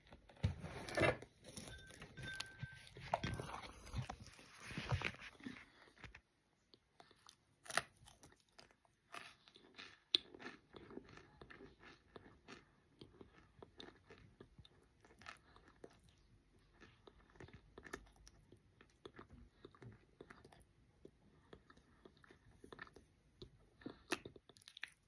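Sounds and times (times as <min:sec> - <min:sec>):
crunching and chewing: 0:01.4 - 0:25.0.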